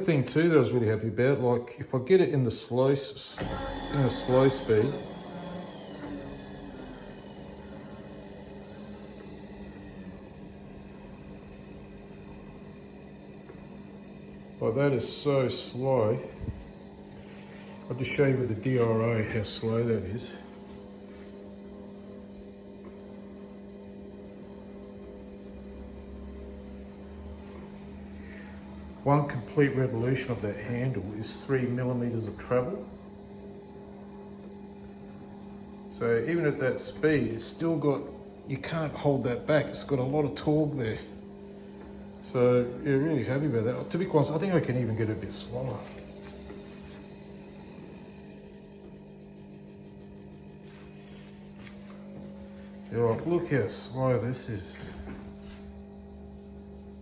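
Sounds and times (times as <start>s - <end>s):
motor humming steadily: 2.8s - 57.0s.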